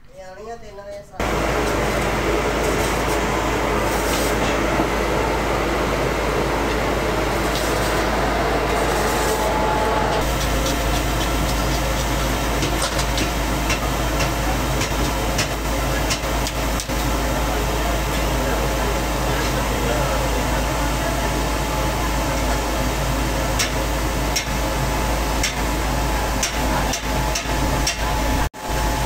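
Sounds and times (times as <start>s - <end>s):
machinery low hum: 1.2s - 29.0s.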